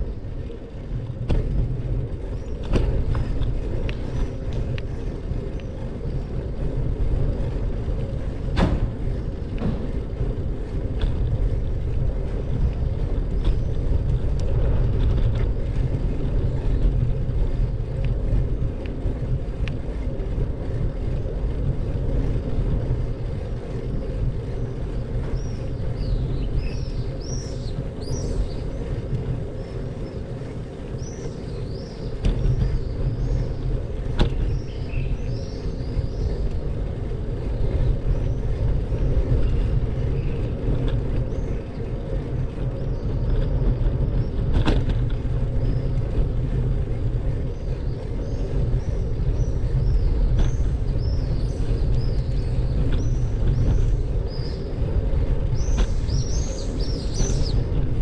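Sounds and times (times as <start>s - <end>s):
vehicle road and wind noise: 0.0s - 58.0s.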